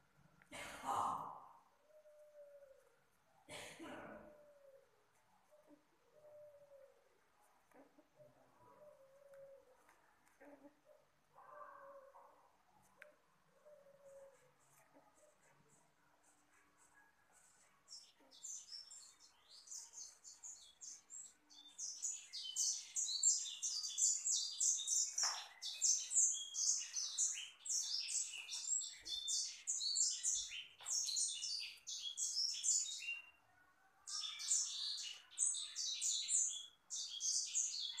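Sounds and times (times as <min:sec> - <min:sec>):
small birds chirping: 0:04.2 - 0:38.0.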